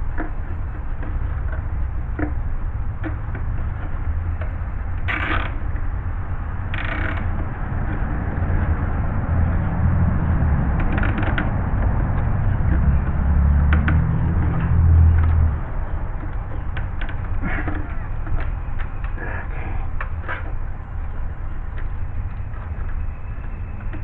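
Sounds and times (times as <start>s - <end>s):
steady low rumble: 0.0s - 24.0s
ratchet strap creaking and clicking: 0.1s - 24.0s.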